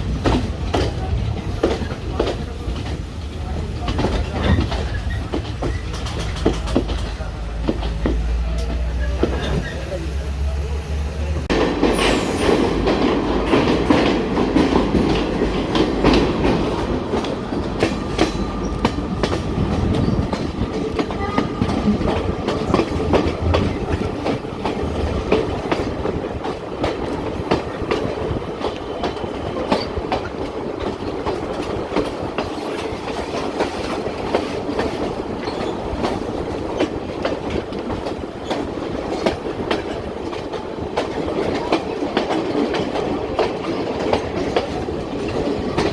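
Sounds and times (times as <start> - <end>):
wheels clacking over rail joints: 0.0 - 9.9, 11.4 - 45.9
train rumble: 0.0 - 45.9.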